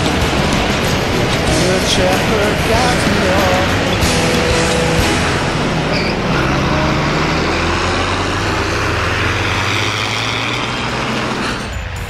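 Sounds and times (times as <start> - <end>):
tractor diesel engine driving past: 0.0 - 12.0.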